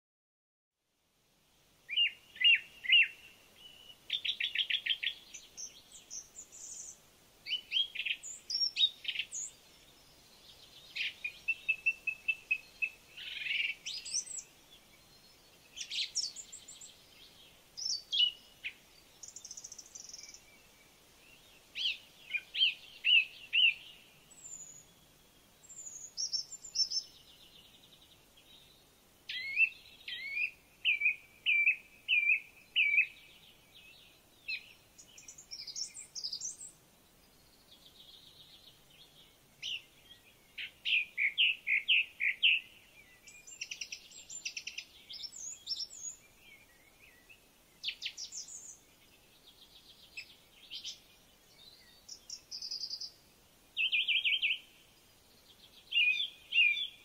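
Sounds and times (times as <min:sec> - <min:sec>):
songbirds singing: 0:01.3 - 0:57.0.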